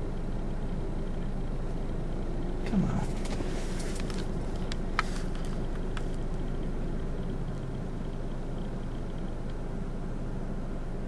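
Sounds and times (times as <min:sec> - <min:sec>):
vehicle cabin hum: 0:00.0 - 0:11.0.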